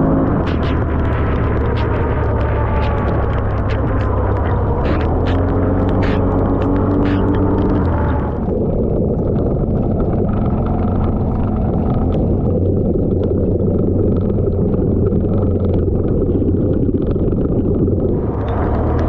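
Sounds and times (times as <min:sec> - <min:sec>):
off-road vehicle engine rumble: 0:00.0 - 0:19.0
rough driving noise: 0:00.0 - 0:19.0.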